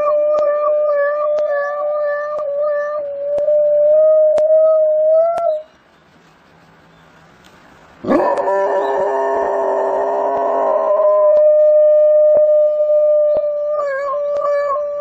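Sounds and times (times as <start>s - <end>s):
dog howling: 0.0s - 5.7s, 8.0s - 15.0s.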